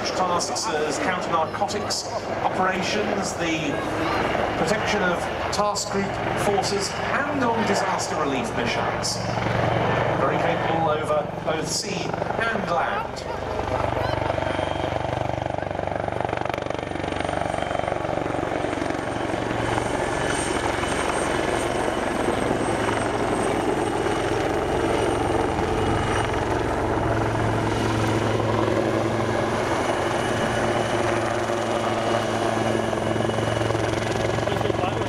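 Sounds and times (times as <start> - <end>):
helicopter rotor beat: 0.0 - 35.0
turbine engine whine: 0.0 - 35.0.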